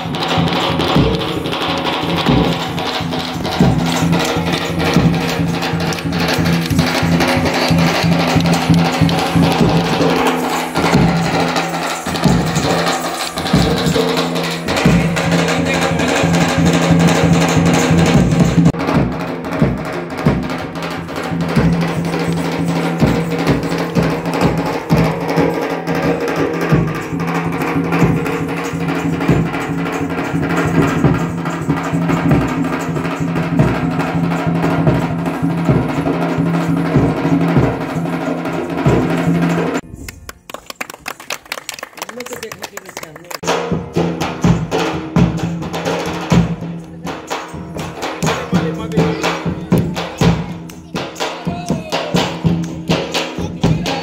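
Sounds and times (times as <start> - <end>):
hand drum beating: 0.0 - 39.8, 43.4 - 54.0.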